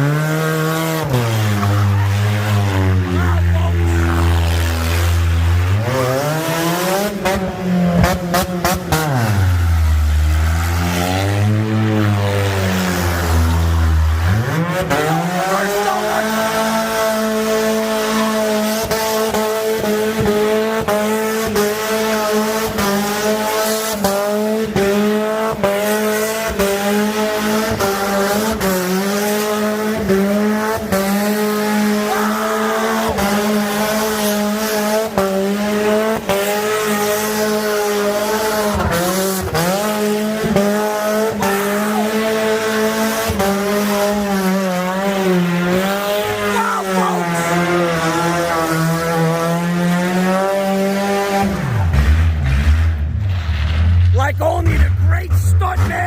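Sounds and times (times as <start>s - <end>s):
car engine revving on limiter: 0.0s - 55.1s.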